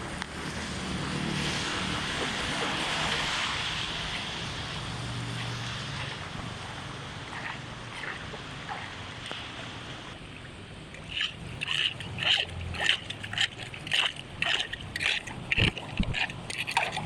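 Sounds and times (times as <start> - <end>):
rhythmic water splashing: 0.0 - 17.0
rushing water: 0.0 - 17.0.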